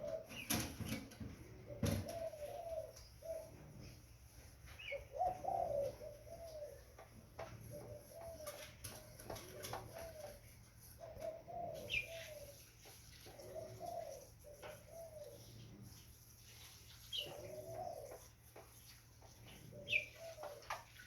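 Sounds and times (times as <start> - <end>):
dove cooing: 0.0 - 4.1, 4.7 - 16.0, 17.1 - 18.4, 19.5 - 21.0.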